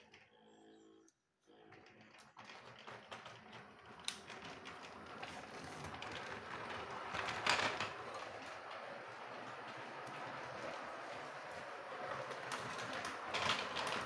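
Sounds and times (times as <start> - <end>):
wheels clicking over rail joints: 2.5 - 14.0.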